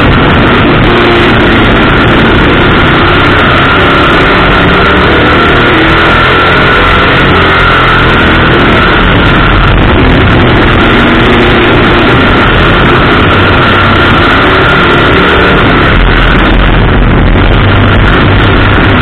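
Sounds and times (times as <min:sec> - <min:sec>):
race car engine running hard: 0:00.0 - 0:19.0
rushing air and road noise: 0:00.0 - 0:19.0.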